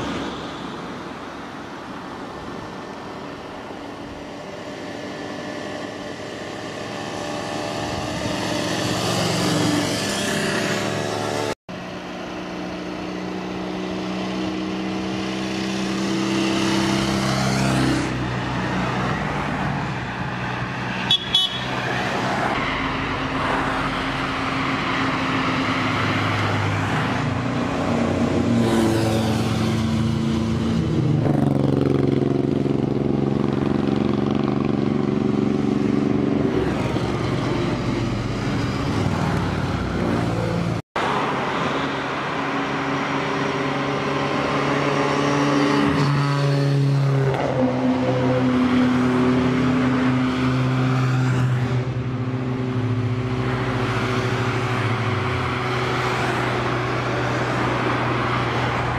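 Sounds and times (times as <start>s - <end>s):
motorcycles and cars passing: 0.0s - 58.9s.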